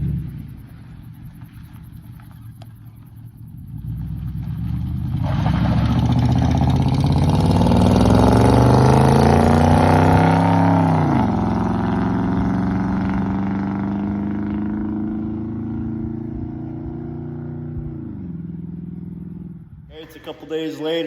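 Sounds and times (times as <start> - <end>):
engine accelerating: 0.0 - 20.0.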